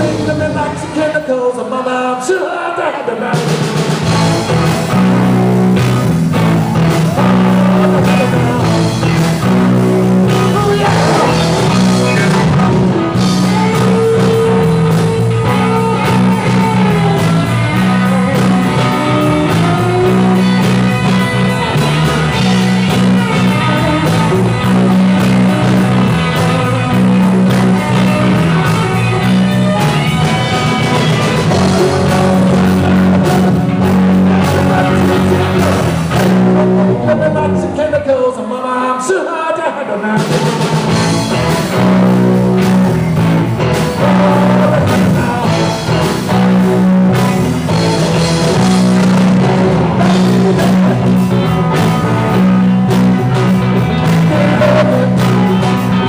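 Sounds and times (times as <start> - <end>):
rock and roll band playing: 0.0 - 56.0.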